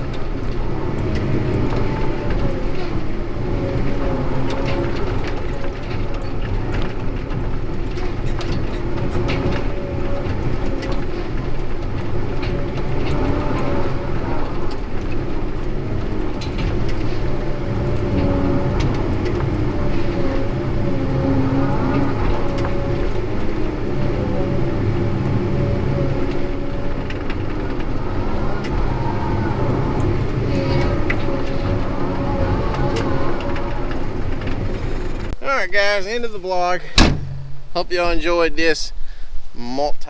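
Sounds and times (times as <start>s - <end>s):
heavy diesel engine running: 0.0s - 38.1s
wavering whine: 0.0s - 39.6s.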